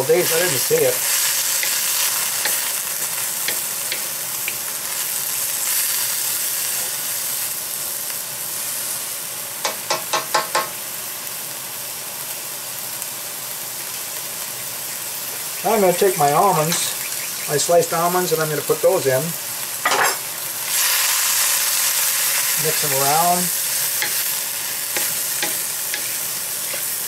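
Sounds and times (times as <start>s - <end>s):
vegetables sizzling in a wok: 0.0s - 27.0s.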